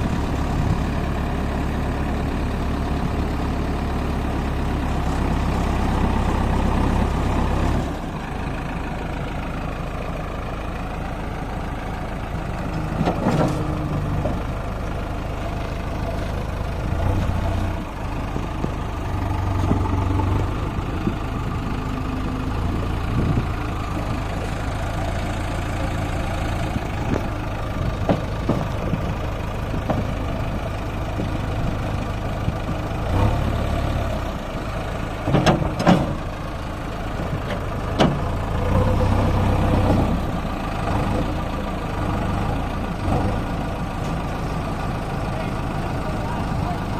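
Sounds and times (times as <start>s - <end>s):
heavy diesel machinery revving: 0.0s - 46.9s.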